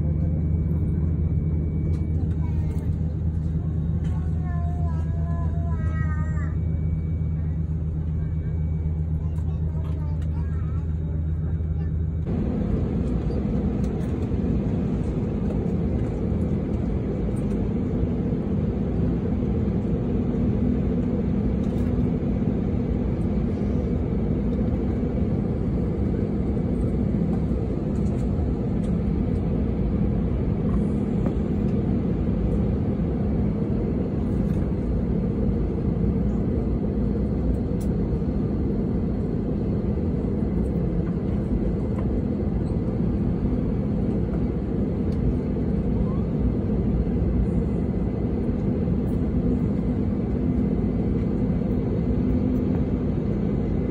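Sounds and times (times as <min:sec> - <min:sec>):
jet engine low rumble: 0:00.0 - 0:53.9.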